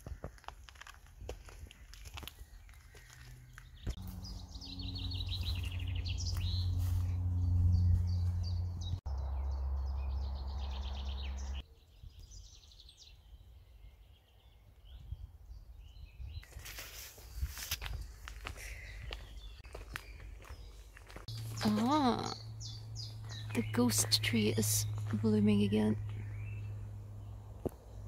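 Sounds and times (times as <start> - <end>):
songbirds trilling: 0.0 - 16.7, 18.3 - 28.0.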